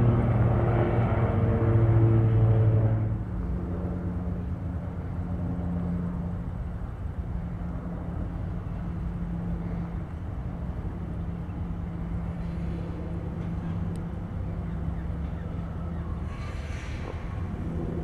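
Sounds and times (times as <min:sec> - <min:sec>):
tram rumbling and humming: 0:00.0 - 0:18.0.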